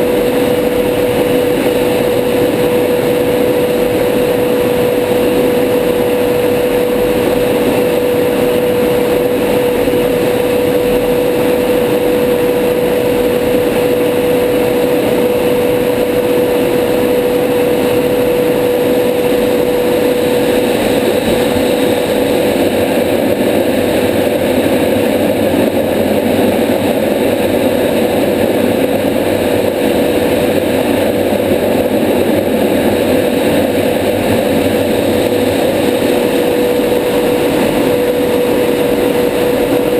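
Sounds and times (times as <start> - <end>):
jet engine drone in cockpit: 0.0 - 39.9
rushing air: 0.0 - 39.9.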